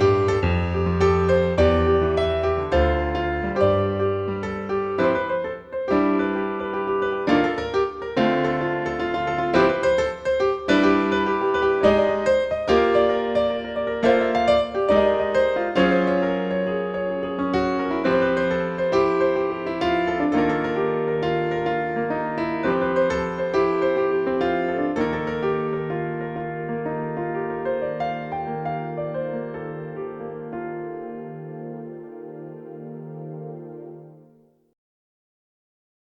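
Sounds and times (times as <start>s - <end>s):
piano music: 0.0s - 34.6s.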